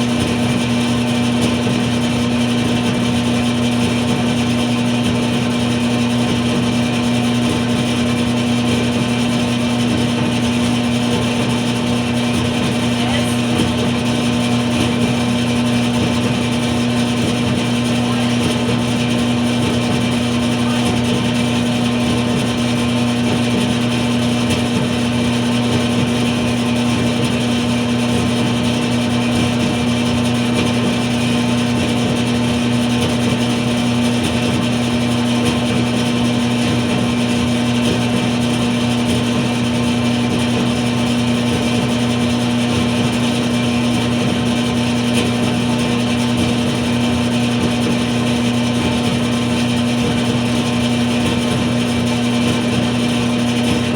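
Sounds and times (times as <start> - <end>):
dryer running: 0.0 - 53.9.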